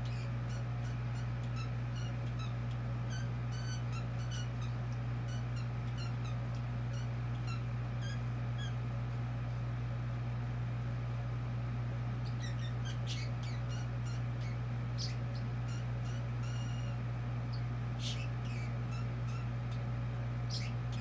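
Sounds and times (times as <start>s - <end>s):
budgerigar chirping: 0.0s - 8.8s, 12.2s - 19.8s, 20.5s - 21.0s
steady low hum: 0.0s - 21.0s.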